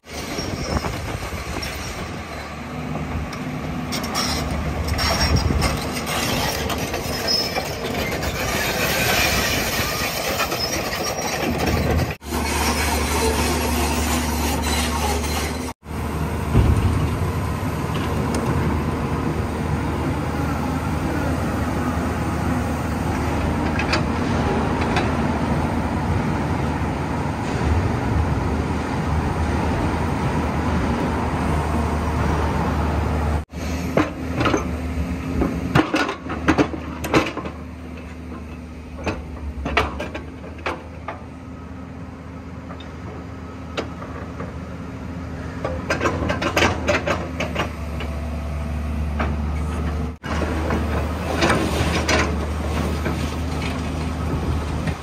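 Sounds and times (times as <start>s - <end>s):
diesel engine running: 0.4s - 55.0s.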